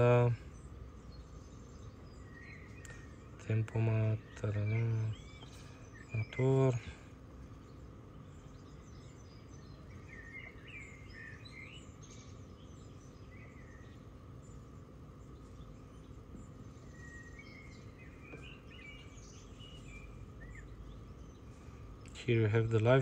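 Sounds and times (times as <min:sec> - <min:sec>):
faint bird chirps: 0:00.0 - 0:23.0
steady low hum: 0:00.0 - 0:23.0.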